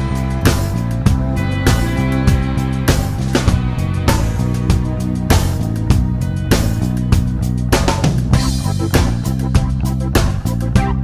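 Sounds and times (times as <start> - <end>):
instrumental music with guitar: 0.0 - 11.0
steady drum beat: 0.0 - 11.0.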